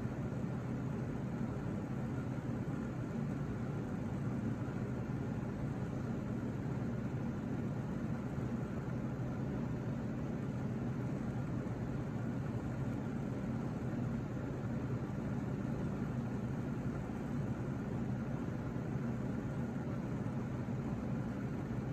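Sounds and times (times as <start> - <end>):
fan motor humming: 0.0 - 21.9.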